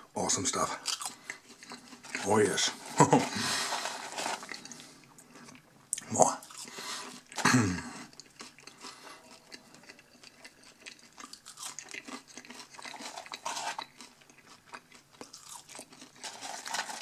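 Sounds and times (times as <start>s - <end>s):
crunchy chewing of fries: 0.5s - 17.0s.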